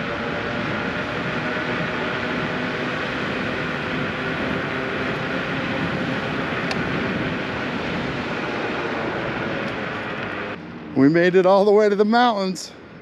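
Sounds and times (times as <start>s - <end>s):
wind on microphone: 0.0s - 10.8s.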